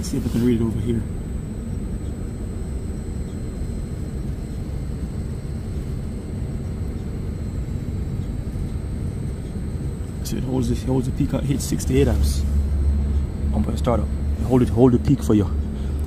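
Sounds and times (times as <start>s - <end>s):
outdoor air conditioning unit humming: 0.0s - 16.0s.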